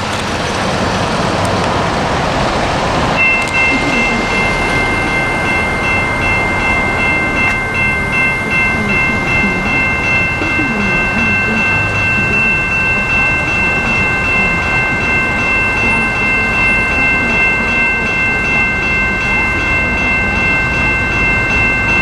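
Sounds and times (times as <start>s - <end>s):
road traffic passing: 0.0s - 22.0s
level crossing electronic bells: 3.2s - 22.0s.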